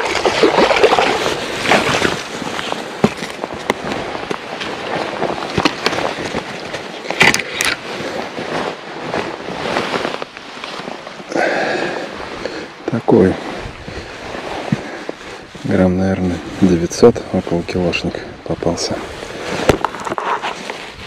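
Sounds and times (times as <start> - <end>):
water splashing and sloshing: 0.0 - 17.2.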